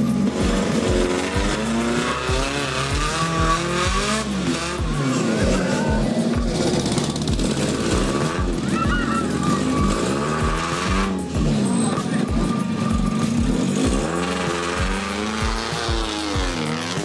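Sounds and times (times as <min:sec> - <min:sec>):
car engine revving: 0:00.0 - 0:17.0
music with steady beat: 0:00.0 - 0:17.0
tyre squeal: 0:00.4 - 0:17.0.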